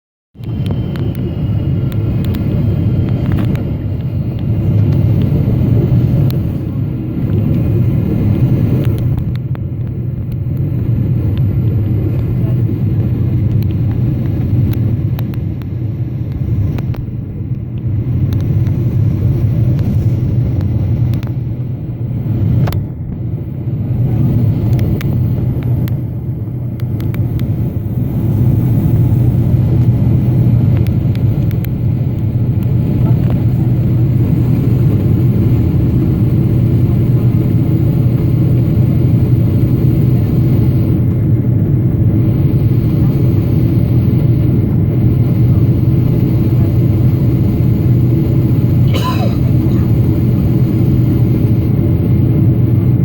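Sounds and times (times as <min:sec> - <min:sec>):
airplane cabin engine rumble: 0:00.4 - 0:53.0.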